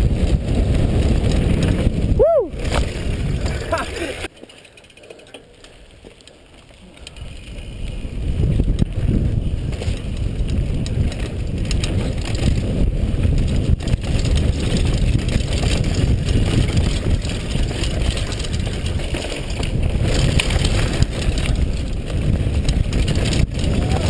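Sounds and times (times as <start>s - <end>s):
wind rumble on microphone: 0.0s - 4.3s, 7.0s - 24.0s
bike rattling: 0.0s - 24.0s
tyres rolling on dirt: 0.0s - 24.0s.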